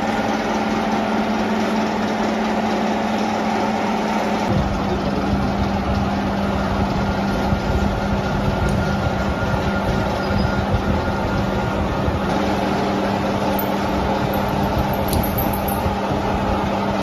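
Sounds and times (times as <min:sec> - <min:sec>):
workshop machinery rumbling: 0:00.0 - 0:17.0.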